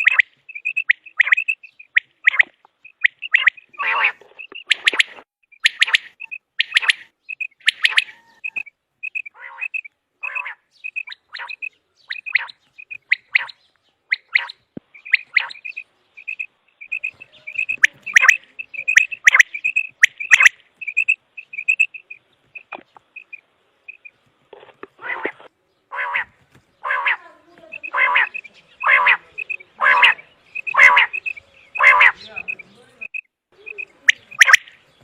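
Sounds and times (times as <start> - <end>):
quail calling: 0.0 - 35.0.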